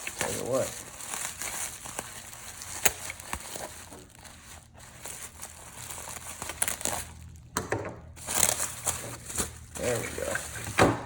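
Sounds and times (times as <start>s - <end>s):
packing material crinkling: 0.0s - 11.0s.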